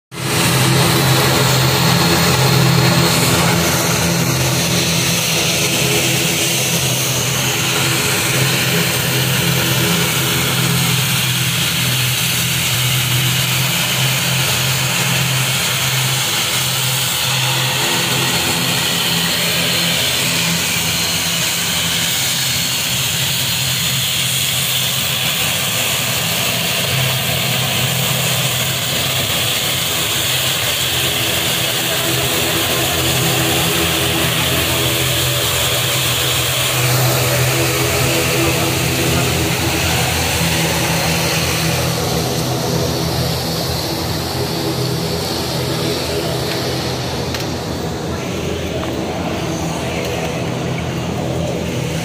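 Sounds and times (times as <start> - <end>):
turboprop engines droning: 0.1 - 52.0.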